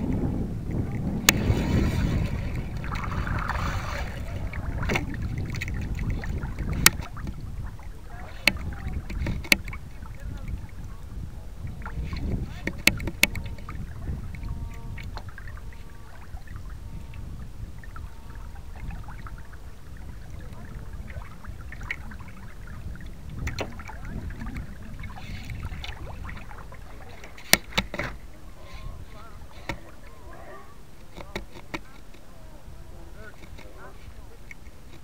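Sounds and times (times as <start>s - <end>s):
water rushing along boat hull: 0.0s - 35.0s
wind buffeting microphone: 0.0s - 35.0s.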